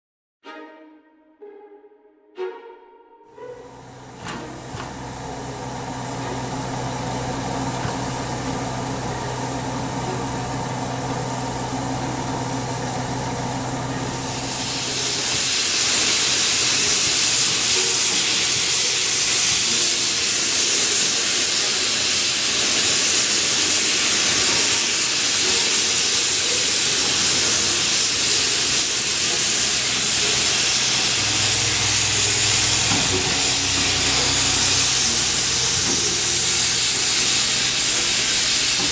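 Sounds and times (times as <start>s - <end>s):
steam locomotive low hum: 3.4s - 38.9s
steam hissing: 3.6s - 38.9s.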